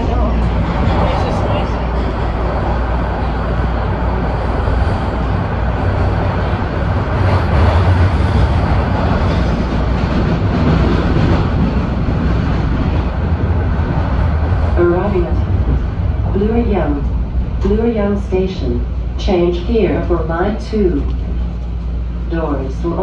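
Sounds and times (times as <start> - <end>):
subway train rumbling in tunnel: 0.0 - 23.0.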